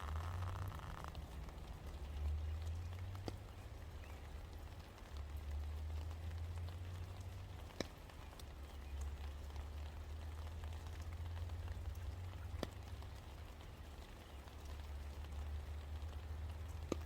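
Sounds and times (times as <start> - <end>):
low steady rumble: 0.0 - 17.0
sharp close drips: 0.0 - 17.0
steady rain: 0.0 - 17.0.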